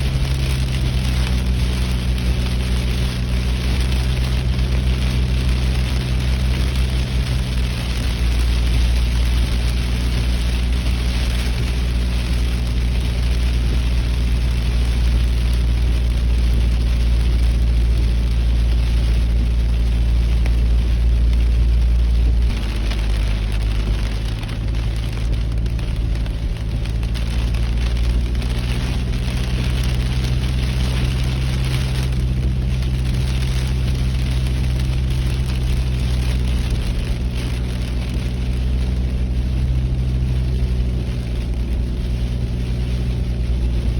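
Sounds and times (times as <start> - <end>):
car engine and road drone: 0.0 - 43.9
rain and wet tyres hissing: 0.0 - 43.9.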